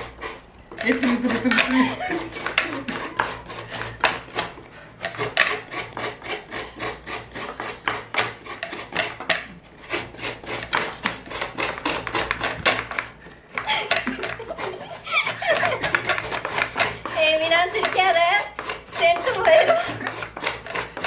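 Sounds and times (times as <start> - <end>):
coconut grating rasps: 0.0 - 21.0.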